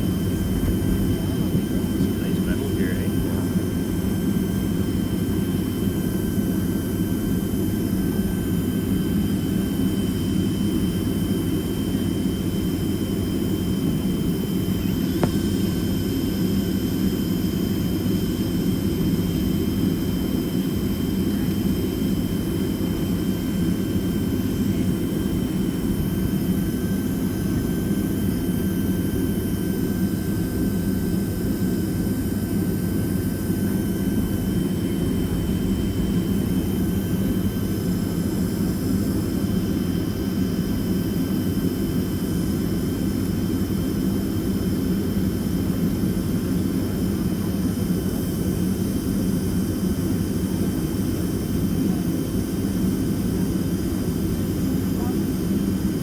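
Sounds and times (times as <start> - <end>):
jet engines heard in cabin: 0.0 - 56.0.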